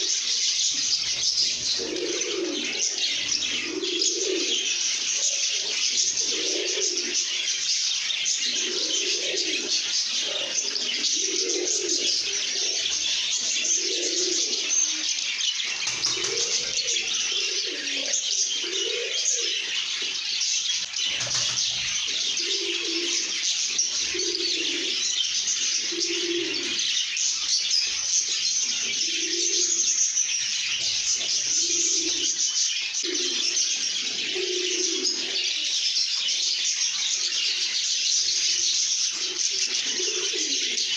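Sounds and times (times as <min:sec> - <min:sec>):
lovebirds chattering and chirping: 0:00.0 - 0:40.9.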